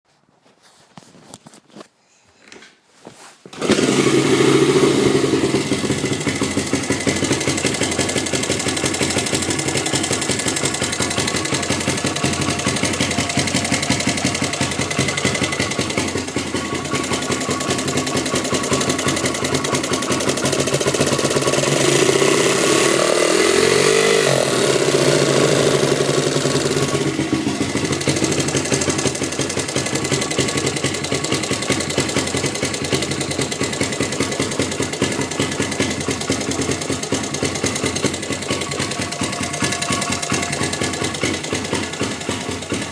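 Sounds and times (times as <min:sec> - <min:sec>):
motorcycle engine running: 0:03.5 - 0:42.9.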